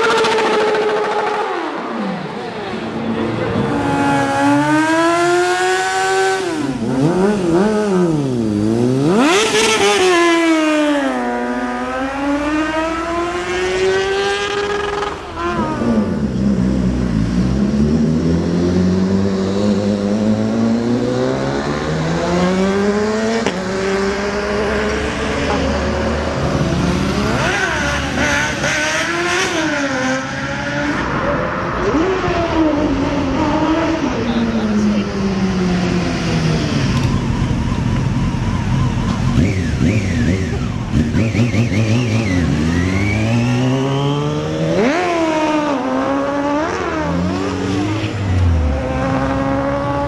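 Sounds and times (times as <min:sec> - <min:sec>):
motorcycle engines revving hard: 0:00.0 - 0:50.0
motorcycles accelerating: 0:00.0 - 0:50.0.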